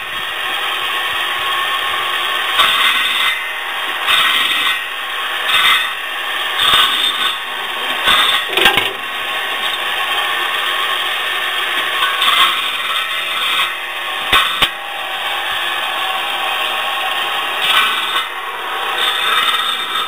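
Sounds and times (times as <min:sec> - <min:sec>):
circular saw cutting branches: 0:00.0 - 0:20.0.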